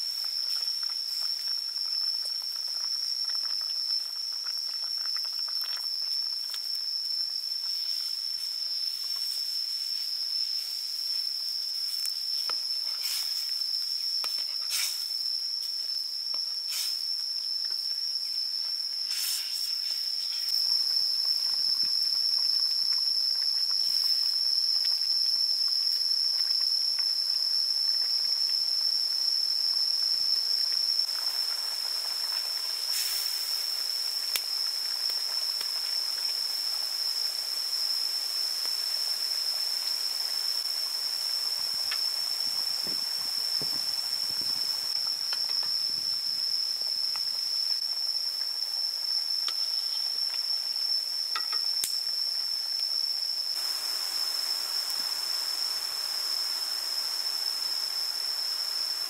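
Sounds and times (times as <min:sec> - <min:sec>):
curry simmering in a wok: 0:00.0 - 0:59.0
high-pitched insect drone: 0:00.0 - 0:59.0.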